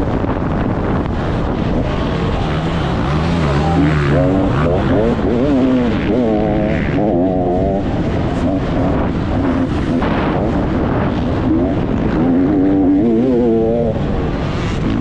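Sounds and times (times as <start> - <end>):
dirt bike engine revving: 0.1 - 15.0.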